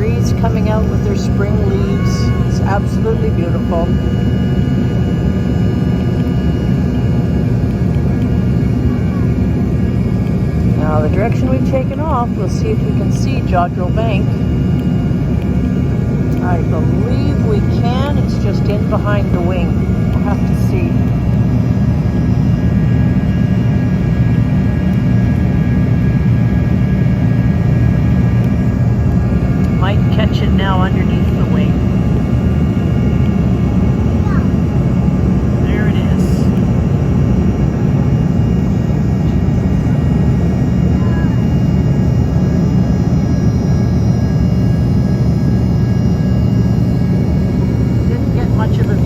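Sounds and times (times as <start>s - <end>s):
airliner engines droning in cabin: 0.0s - 49.0s.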